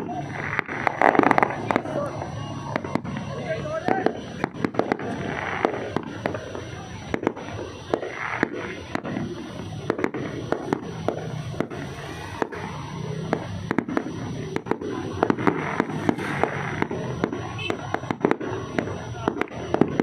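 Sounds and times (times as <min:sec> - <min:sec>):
fireworks bangs and cracks: 0:00.0 - 0:20.0
steady background din: 0:00.0 - 0:20.0.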